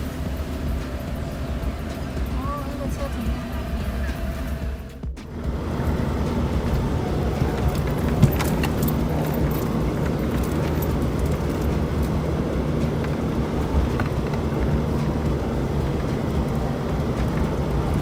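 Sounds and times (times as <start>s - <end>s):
vehicle engine running under load: 0.0s - 18.0s
vehicle rattles and clicks: 0.0s - 18.0s.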